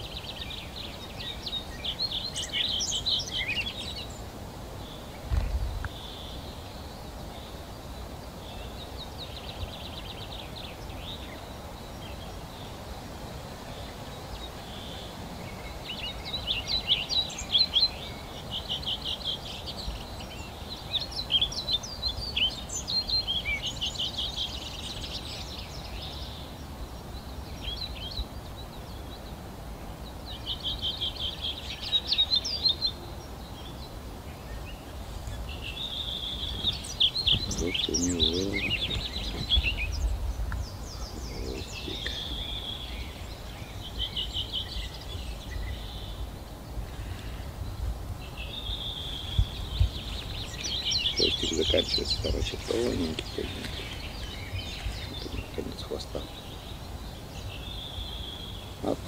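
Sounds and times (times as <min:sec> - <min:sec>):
low background noise: 0:00.0 - 0:59.0
songbirds chirping and trilling: 0:00.0 - 0:59.0.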